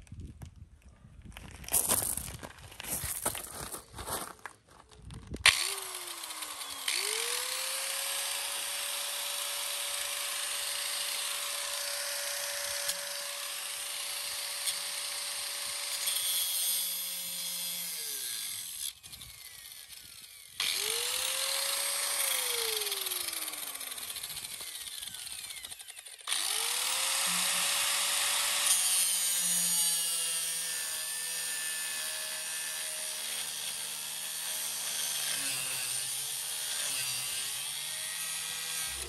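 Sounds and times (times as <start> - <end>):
angle grinder cutting metal: 5.4 - 39.0.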